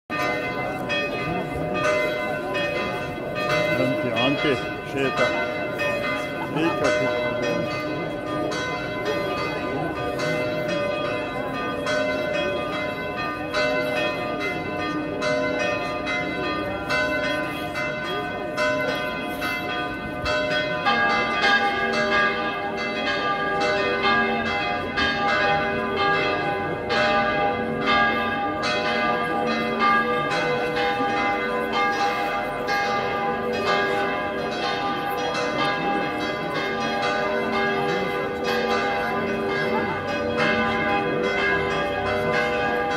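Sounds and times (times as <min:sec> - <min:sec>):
church bells ringing: 0:00.1 - 0:42.9.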